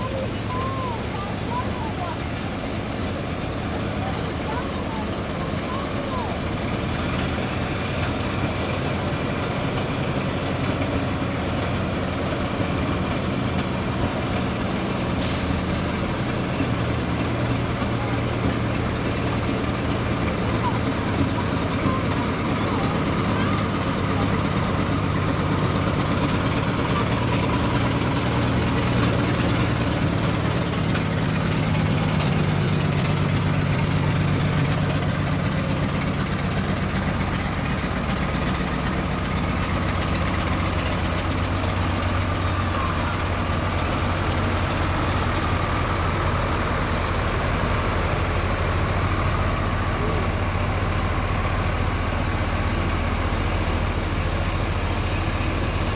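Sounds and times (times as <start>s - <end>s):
diesel engines of trucks rolling past: 0.0s - 55.9s.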